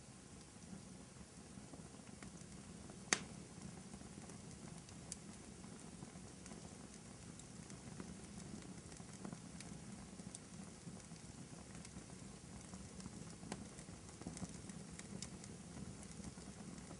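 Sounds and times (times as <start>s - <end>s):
fire crackling pops: 0.0s - 16.9s
wood fire rumble: 0.0s - 16.9s.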